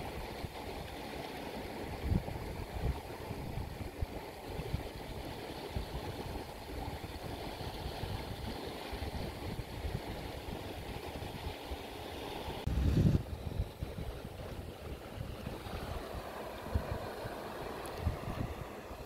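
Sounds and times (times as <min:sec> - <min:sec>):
wind buffeting microphone: 0:01.8 - 0:11.8, 0:12.5 - 0:19.0.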